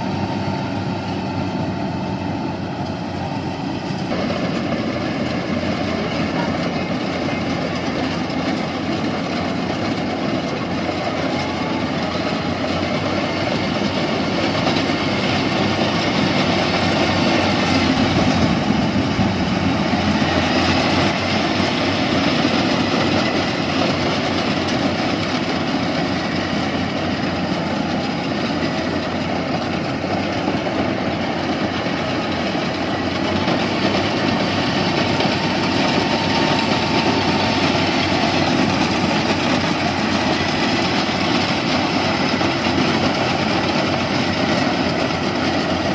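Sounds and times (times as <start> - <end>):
combine harvester droning: 0.0 - 45.9.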